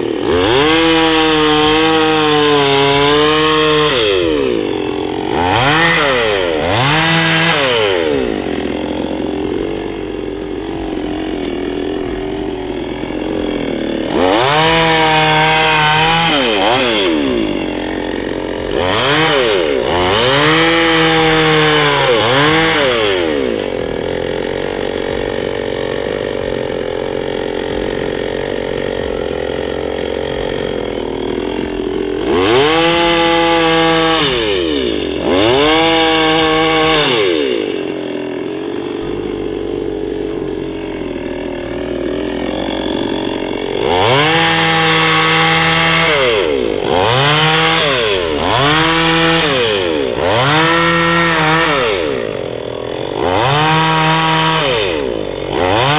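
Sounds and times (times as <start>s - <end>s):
chainsaw idling and revving: 0.0s - 55.9s.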